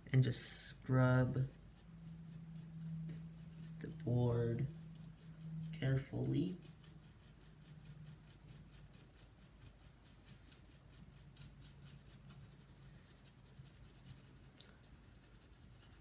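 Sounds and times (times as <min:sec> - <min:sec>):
toothbrush scrubbing circuit board: 0:00.4 - 0:16.0.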